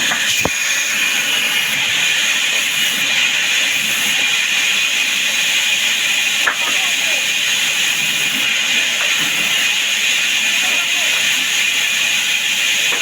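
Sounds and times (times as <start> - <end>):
power saw running: 0.0 - 13.0.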